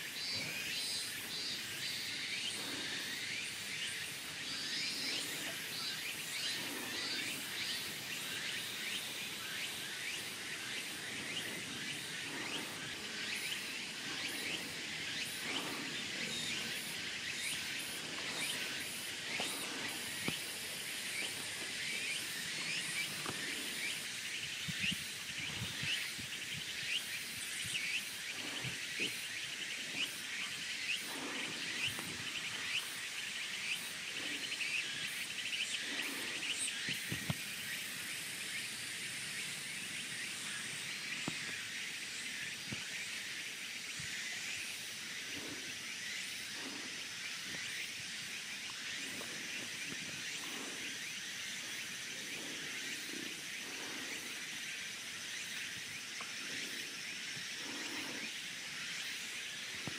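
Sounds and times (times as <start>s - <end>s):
pulsing insect chorus: 0.0s - 59.9s.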